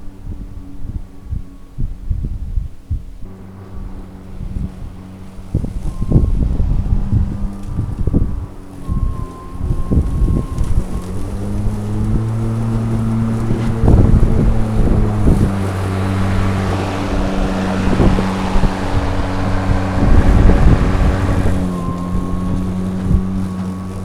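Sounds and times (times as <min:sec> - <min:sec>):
electric lawn mower humming: 0:00.0 - 0:24.0
wind buffeting microphone: 0:00.0 - 0:24.0.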